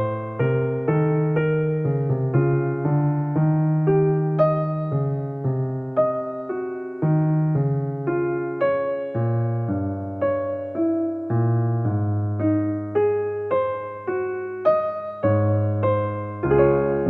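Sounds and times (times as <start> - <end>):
electric piano melody: 0.0 - 17.0.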